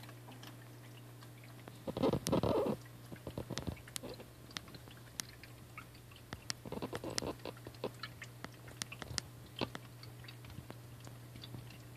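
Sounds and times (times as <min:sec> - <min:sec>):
turtle biting fish in water: 0:00.0 - 0:11.9.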